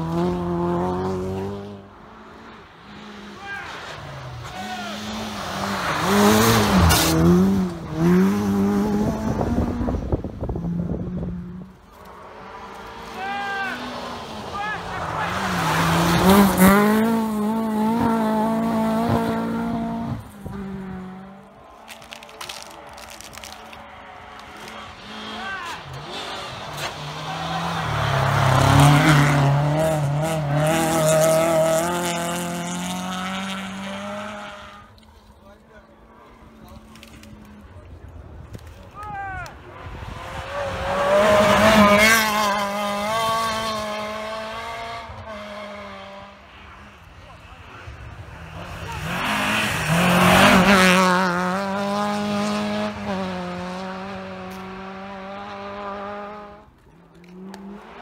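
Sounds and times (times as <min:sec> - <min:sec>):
rally car passing at speed: 0:00.0 - 0:21.9, 0:23.8 - 0:35.1, 0:39.5 - 0:58.0.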